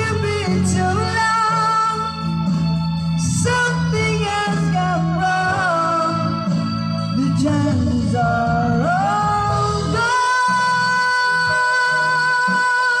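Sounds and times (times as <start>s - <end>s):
instrumental backing: 0.0s - 13.0s
person singing a ballad: 0.0s - 13.0s.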